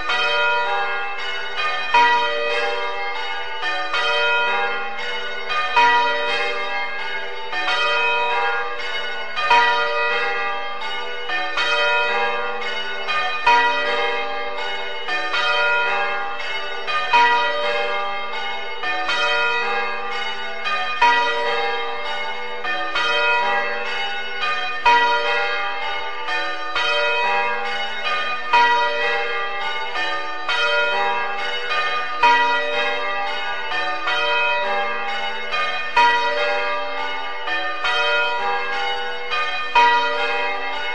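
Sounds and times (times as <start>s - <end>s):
church bells change ringing: 0.0s - 40.9s.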